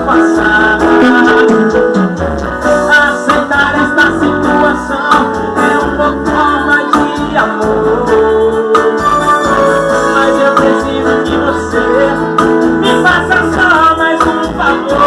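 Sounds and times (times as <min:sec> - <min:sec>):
band song with plucked guitar: 0:00.0 - 0:15.0.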